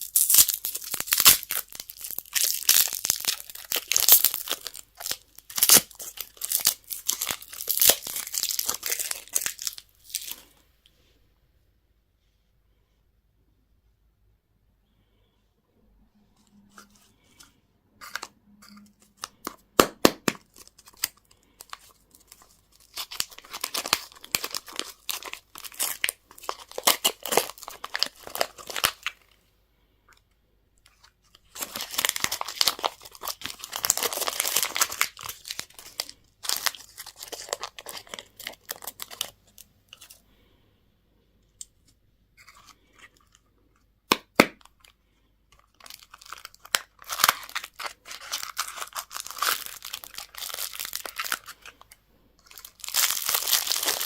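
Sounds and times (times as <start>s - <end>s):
candy wrapper crinkling: 0.0s - 10.6s, 16.7s - 29.4s, 30.9s - 40.2s, 41.6s - 54.0s.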